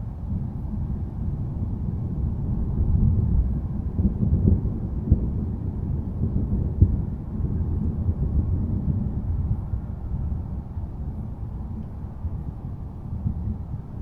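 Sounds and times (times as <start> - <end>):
distant thunder rumble: 0.3 - 11.6.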